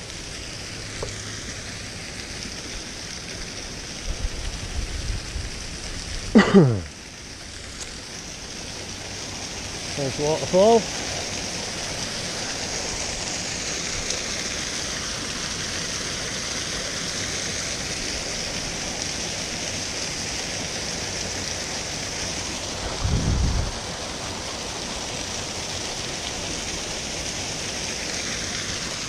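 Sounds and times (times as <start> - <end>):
waterfall rushing over rocks: 0.0 - 29.0.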